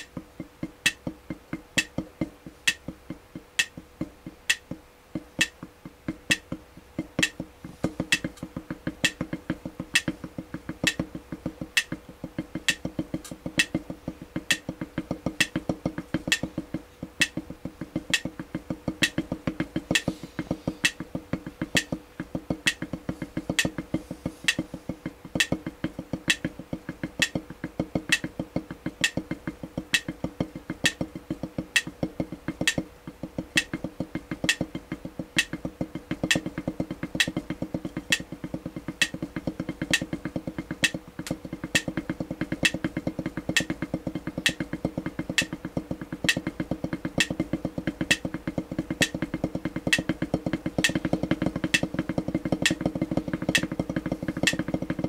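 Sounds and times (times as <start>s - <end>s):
drumstick strokes on drum pad: 0.0s - 55.0s.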